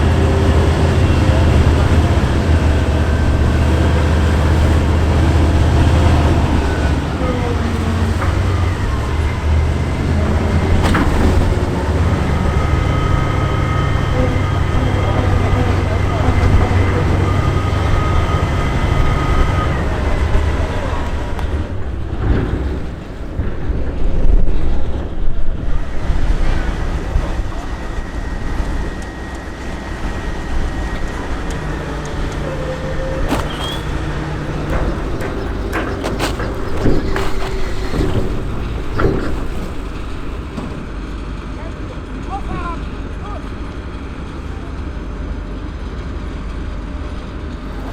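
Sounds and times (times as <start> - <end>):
diesel engine rumbling: 0.0 - 47.9.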